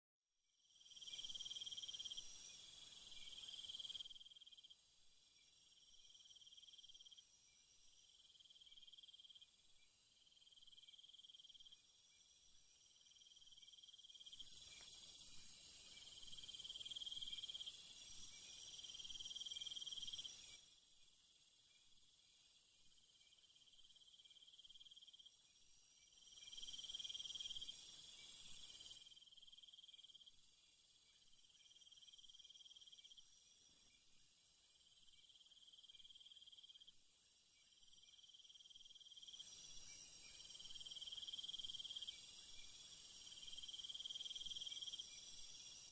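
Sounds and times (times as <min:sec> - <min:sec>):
insect chorus chirring: 0:00.6 - 0:45.9.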